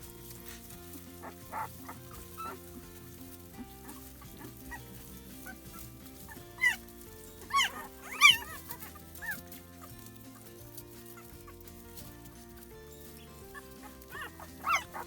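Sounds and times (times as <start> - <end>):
puppies whining cries: 0.0 - 15.0
soft background music: 0.0 - 15.0.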